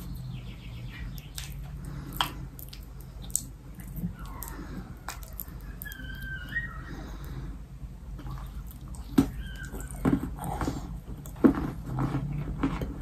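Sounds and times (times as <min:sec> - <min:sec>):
wet sticky chewing: 0:00.9 - 0:07.4, 0:08.2 - 0:13.0.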